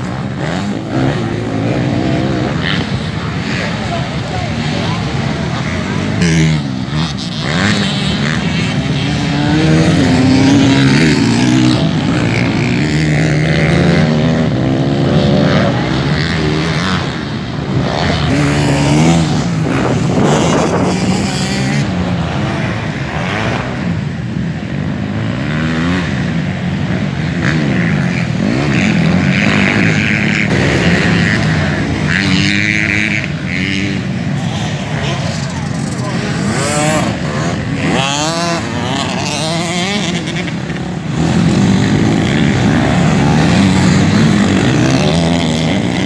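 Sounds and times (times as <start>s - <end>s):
motocross bikes racing: 0.0s - 46.0s
motorbike passing close by: 0.0s - 46.0s.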